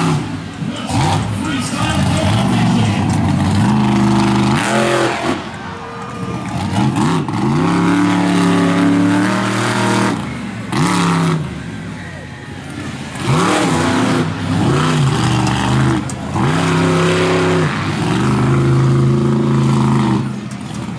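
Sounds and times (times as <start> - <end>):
monster truck engine revving: 0.0 - 20.9.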